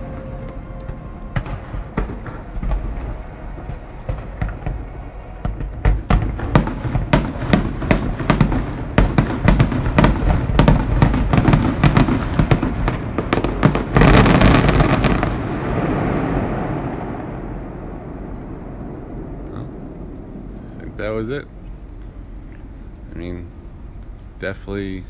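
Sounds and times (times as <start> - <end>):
fireworks cracking and booming: 0.0 - 21.5
fireworks rumble: 0.0 - 25.0.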